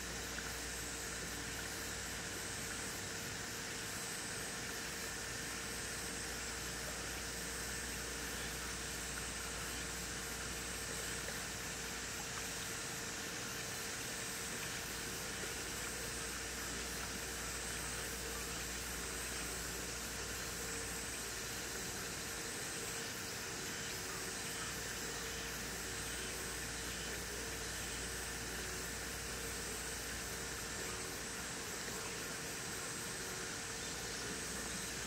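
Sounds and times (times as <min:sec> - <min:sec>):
faint constant hum: 0:00.0 - 0:35.0
steady hissing noise: 0:00.0 - 0:35.0.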